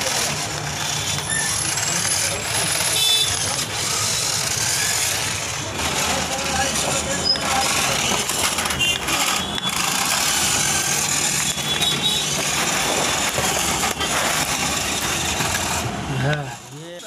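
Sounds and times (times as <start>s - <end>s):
toy tractor running on hard floor: 0.0s - 17.0s.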